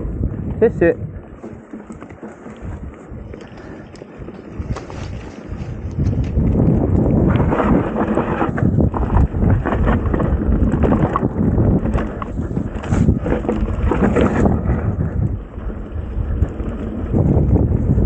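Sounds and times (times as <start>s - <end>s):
mountain bike rattling on trail: 0.0s - 18.0s
wind buffeting microphone: 0.0s - 18.0s.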